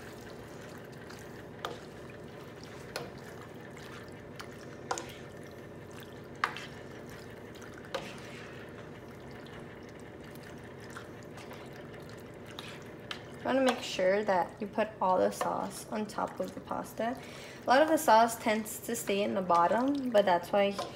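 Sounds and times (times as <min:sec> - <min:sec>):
wet stirring of pasta: 0:00.0 - 0:20.9.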